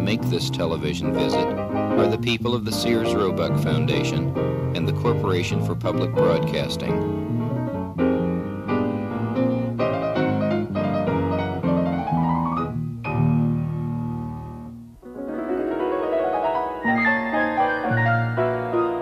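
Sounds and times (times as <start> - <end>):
lively piano melody: 0.0 - 19.0.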